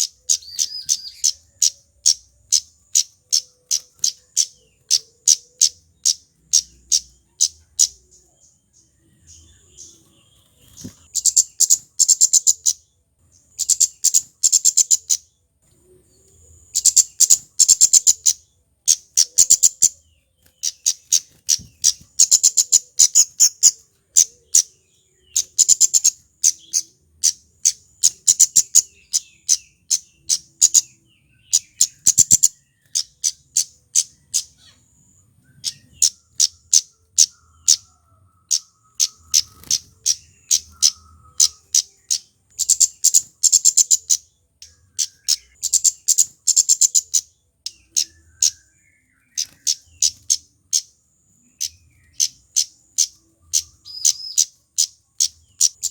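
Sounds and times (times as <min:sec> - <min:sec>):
bird ticking chirps: 0:00.0 - 0:55.9.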